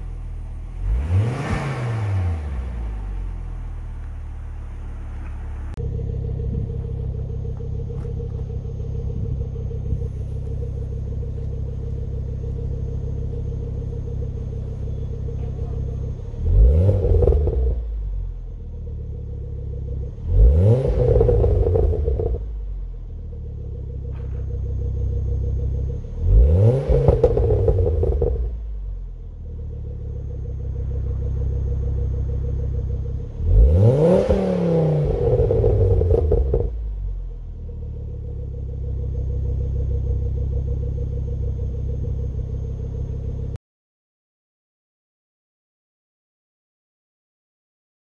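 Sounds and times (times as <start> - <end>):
car engine idling and revving: 0.0 - 43.6.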